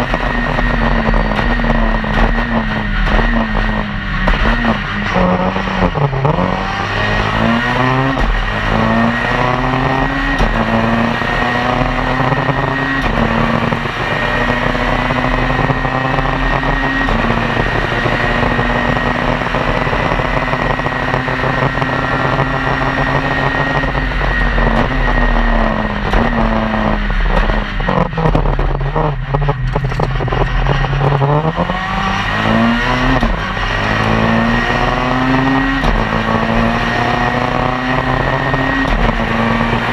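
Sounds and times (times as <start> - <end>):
rally car engine at full throttle: 0.0 - 39.9.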